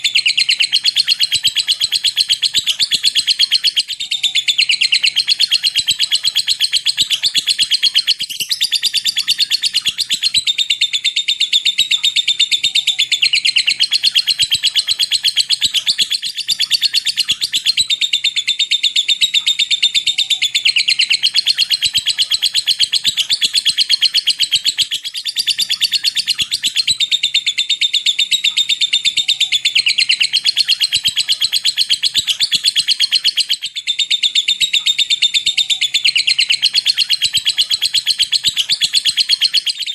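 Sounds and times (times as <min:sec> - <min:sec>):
lovebird trilling and chattering: 0:00.0 - 0:39.9.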